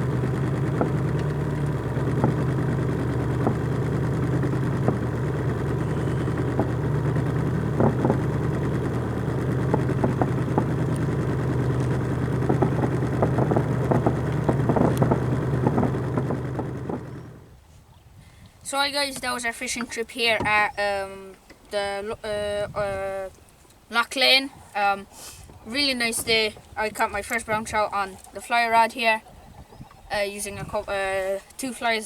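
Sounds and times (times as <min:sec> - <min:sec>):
outboard motor running: 0:00.0 - 0:23.3, 0:24.2 - 0:31.5.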